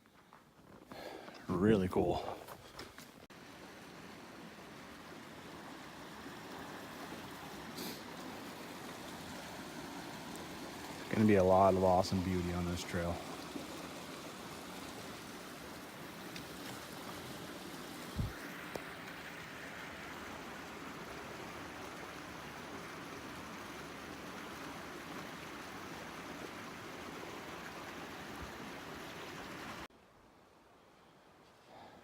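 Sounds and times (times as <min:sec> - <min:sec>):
creek running: 0:00.9 - 0:29.9.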